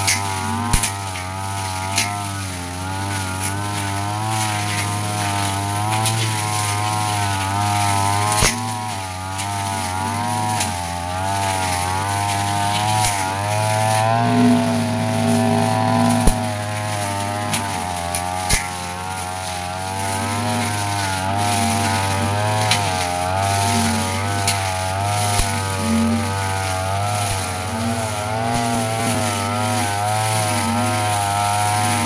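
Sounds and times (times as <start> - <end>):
brush cutter engine cutting grass: 0.0 - 32.0.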